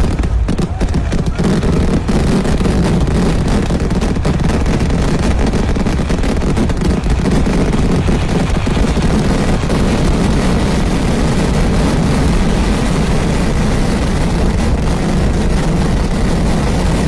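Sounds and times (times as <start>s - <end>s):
rapid firework explosions: 0.0s - 17.0s.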